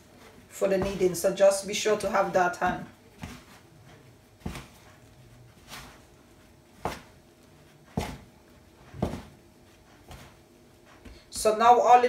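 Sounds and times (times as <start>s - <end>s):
dough mixed by hand: 0.0s - 12.0s.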